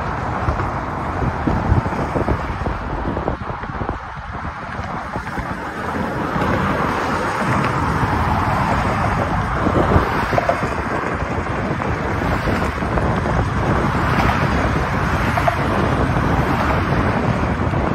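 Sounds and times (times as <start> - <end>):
traffic driving past: 0.0 - 17.9
wind buffeting microphone: 0.0 - 17.9.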